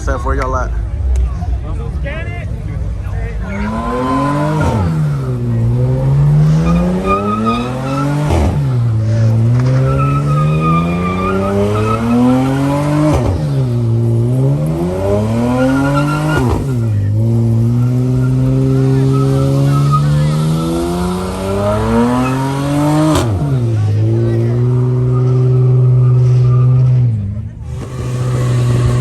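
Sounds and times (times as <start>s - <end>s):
car engine revving hard: 3.3s - 29.0s
tire squeal: 3.4s - 13.9s, 14.9s - 23.8s, 24.4s - 29.0s.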